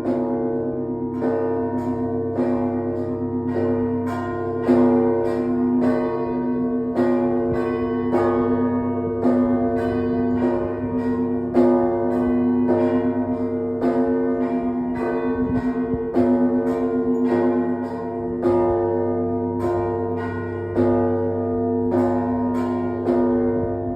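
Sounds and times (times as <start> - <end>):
church bells struck in rhythm: 0.0 - 23.9
lingering hum of large bells: 0.0 - 23.9.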